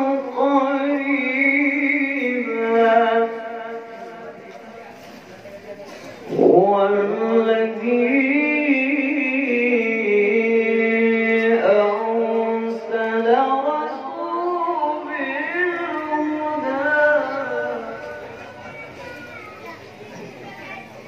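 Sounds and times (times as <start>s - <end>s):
man reciting melodically: 0.0s - 5.1s, 5.8s - 18.9s.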